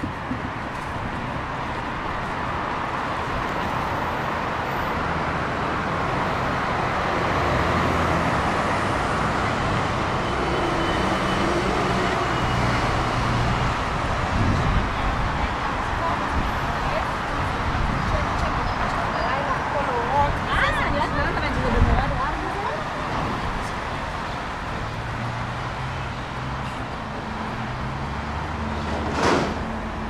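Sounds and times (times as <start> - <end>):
minibus engine hum: 0.0 - 30.0
road traffic rushing: 0.0 - 30.0.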